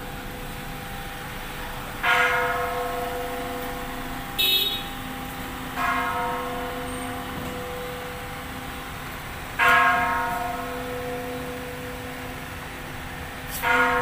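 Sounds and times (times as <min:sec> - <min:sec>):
large bell ringing: 0:01.0 - 0:14.0.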